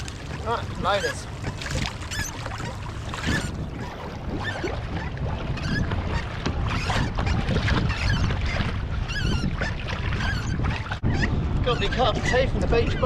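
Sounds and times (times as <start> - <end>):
water splashing at hull: 0.0 - 13.0
wind rumble on microphone: 0.0 - 13.0.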